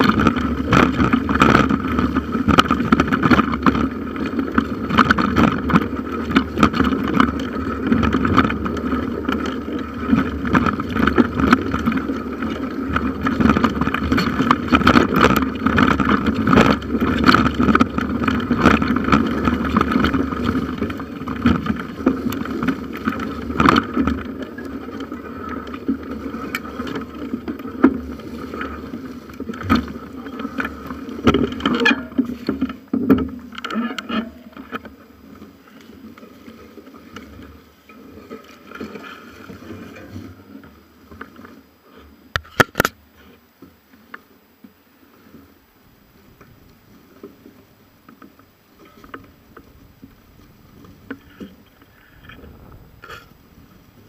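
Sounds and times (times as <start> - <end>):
bicycle tyres and frame rattling: 0.0 - 43.4, 46.0 - 54.0.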